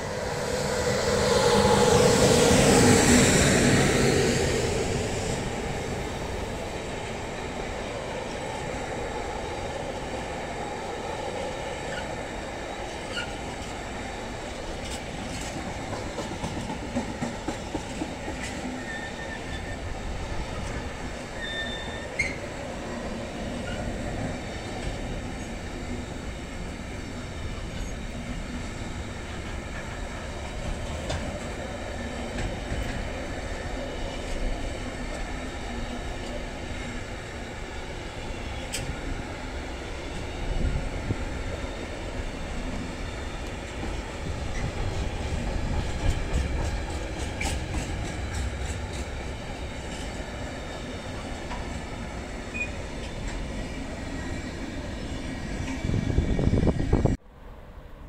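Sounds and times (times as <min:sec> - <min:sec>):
train wheels rumbling on rails: 0:00.0 - 0:57.2.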